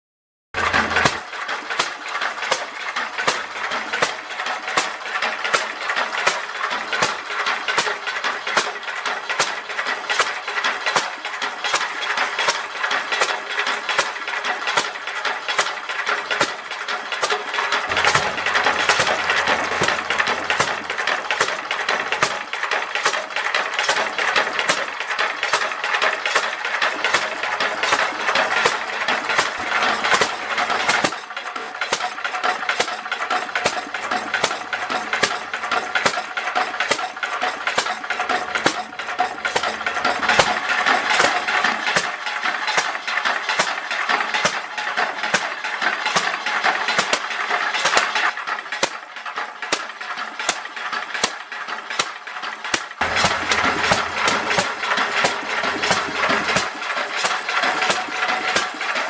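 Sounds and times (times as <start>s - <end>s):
stationary engine clattering: 0.6s - 59.0s.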